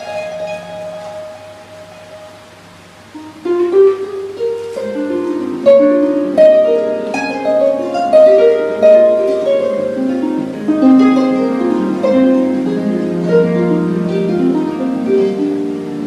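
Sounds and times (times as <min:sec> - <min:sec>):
harp plucked notes: 0:00.0 - 0:16.0.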